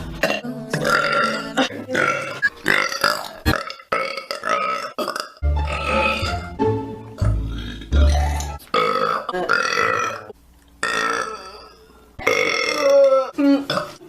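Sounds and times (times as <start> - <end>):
woman burping: 0.2 - 6.3, 7.7 - 14.0.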